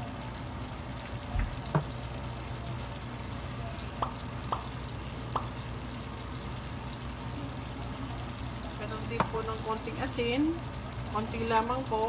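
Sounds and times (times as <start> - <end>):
food simmering in a wok: 0.0 - 12.0.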